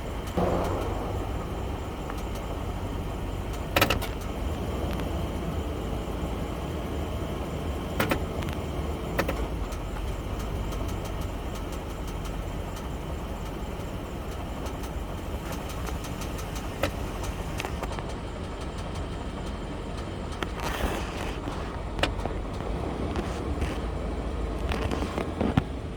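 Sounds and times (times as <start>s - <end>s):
car engine running: 0.0s - 25.9s
irregular engine clicks: 0.0s - 25.9s.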